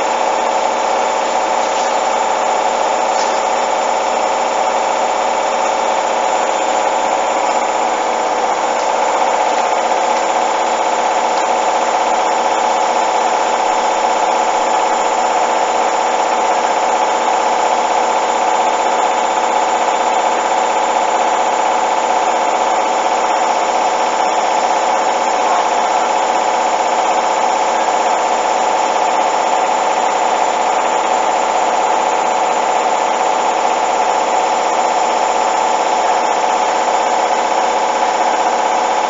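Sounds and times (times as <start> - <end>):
washing machine spinning: 0.0 - 39.0.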